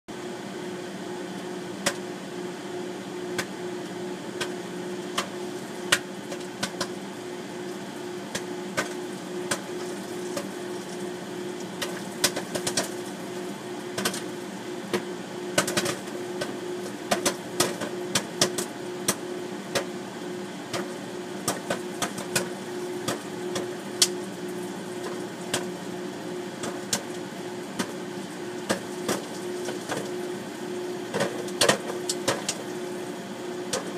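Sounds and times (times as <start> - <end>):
microwave oven humming: 0.1 - 33.9
popcorn popping: 1.4 - 2.1, 3.2 - 20.0, 20.7 - 33.9.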